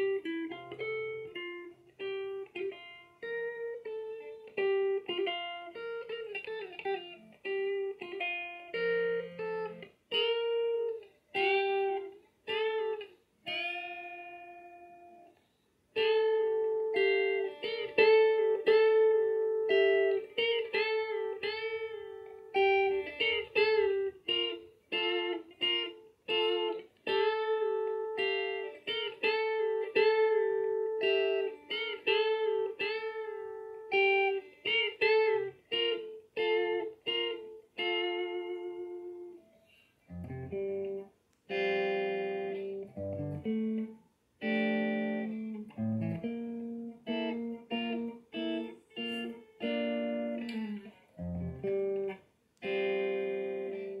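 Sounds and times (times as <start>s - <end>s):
clean electric guitar melody: 0.0s - 54.0s.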